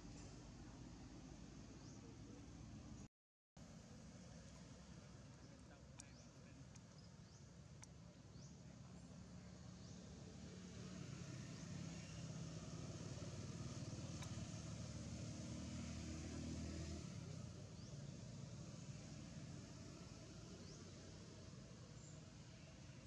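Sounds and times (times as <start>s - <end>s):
vehicle engine humming: 3.6s - 23.0s.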